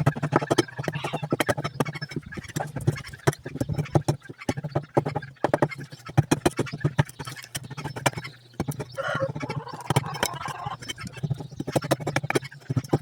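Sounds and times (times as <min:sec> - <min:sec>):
carving tool clicking and scraping wood: 0:00.0 - 0:13.0.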